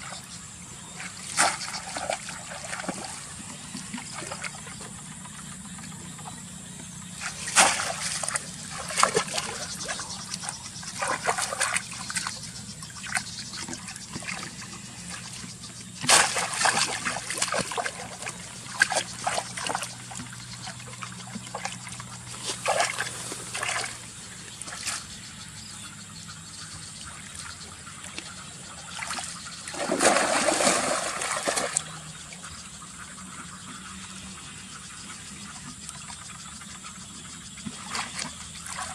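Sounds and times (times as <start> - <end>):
water splashing and sloshing: 0.0 - 38.9.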